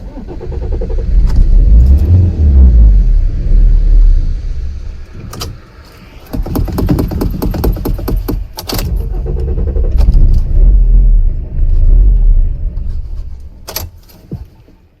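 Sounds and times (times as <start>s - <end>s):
car engine running rough: 0.0s - 13.7s.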